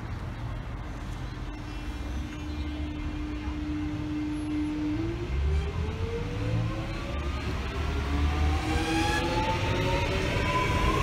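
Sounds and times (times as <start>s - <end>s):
low train running rumble: 0.0s - 11.0s.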